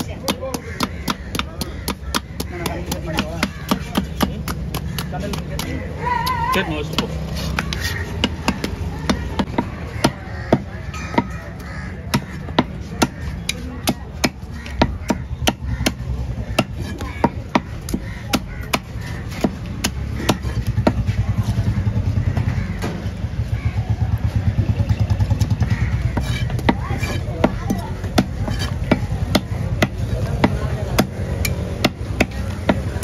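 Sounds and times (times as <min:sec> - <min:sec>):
low engine rumble: 0:00.8 - 0:33.0.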